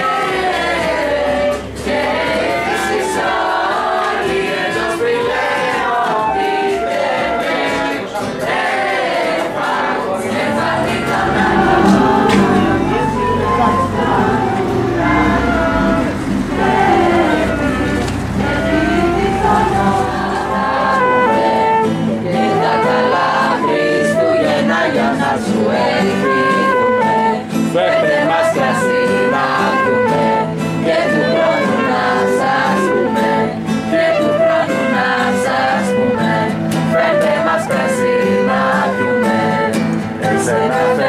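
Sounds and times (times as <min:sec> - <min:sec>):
acoustic guitar: 0:00.0 - 0:41.0
flute: 0:00.0 - 0:41.0
group singing carols: 0:00.0 - 0:41.0.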